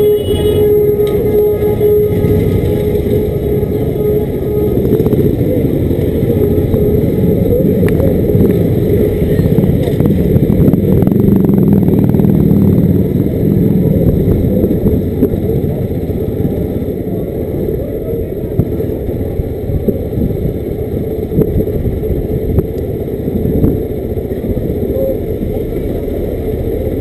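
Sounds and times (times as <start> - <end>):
motorcycle engine rumble: 0.0 - 27.0
road and wind noise: 0.0 - 27.0.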